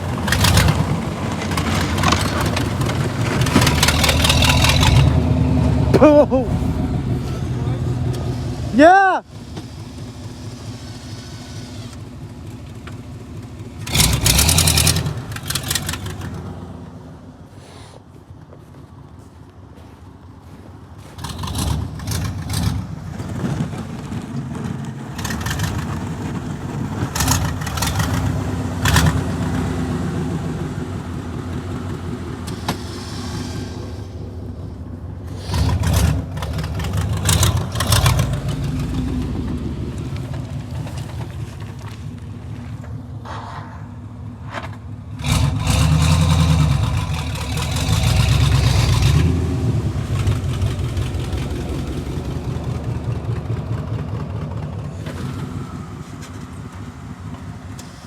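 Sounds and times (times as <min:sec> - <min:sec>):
vehicle engine revving: 0:00.0 - 0:17.6, 0:21.0 - 0:58.0.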